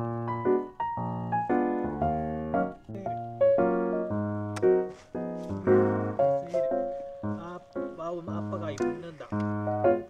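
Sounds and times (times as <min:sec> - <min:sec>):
gentle keyboard tune: 0:00.0 - 0:10.0.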